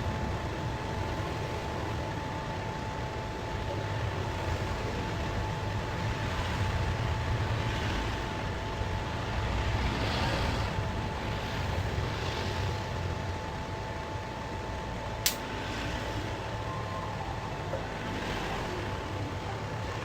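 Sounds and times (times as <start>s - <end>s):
machine humming with whine: 0.0s - 20.0s.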